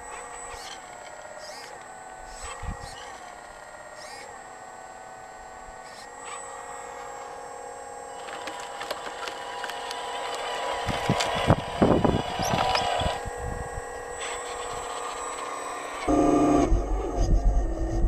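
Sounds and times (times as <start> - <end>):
hydraulic pump and motor whine: 0.0 - 18.0.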